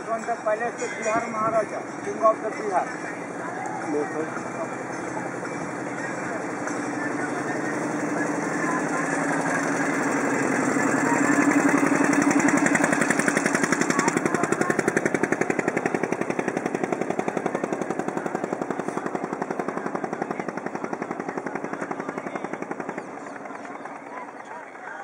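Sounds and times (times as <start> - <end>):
motorboat engine chugging: 0.0 - 25.0.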